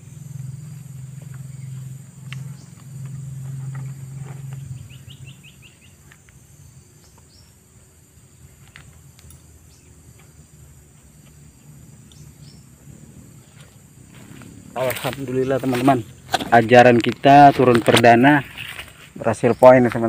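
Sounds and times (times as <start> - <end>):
high insect buzzing: 0.0 - 19.2
low steady hum: 0.0 - 20.0.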